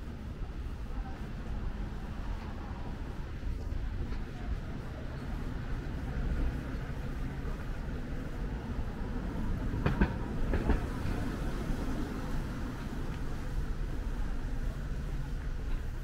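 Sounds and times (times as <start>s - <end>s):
low rumble of street noise: 0.0s - 16.0s.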